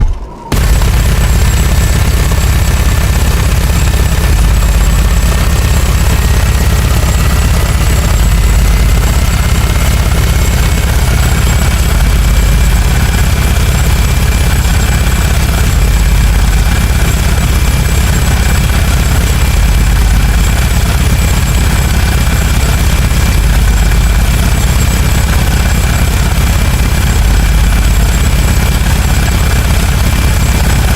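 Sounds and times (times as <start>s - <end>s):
synthesized machine gun firing: 0.5s - 30.9s.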